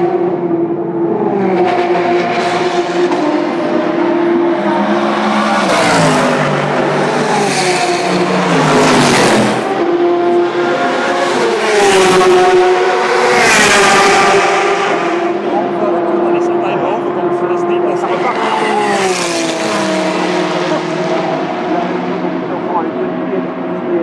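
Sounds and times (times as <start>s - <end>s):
racing car engines passing: 0.0s - 24.0s.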